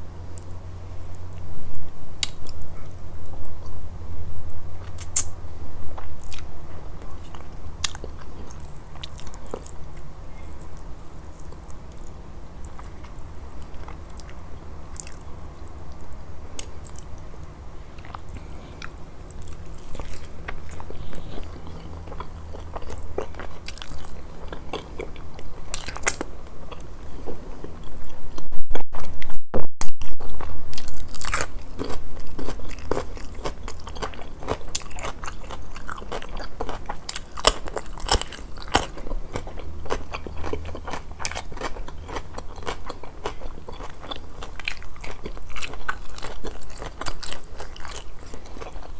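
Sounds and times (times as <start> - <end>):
wet chewing and crunchy bites: 4.8 - 16.0, 17.9 - 28.1, 30.2 - 48.9.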